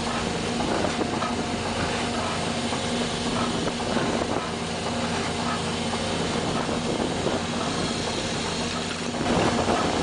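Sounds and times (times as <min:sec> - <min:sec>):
boat engine and hauling machinery: 0:00.0 - 0:10.0.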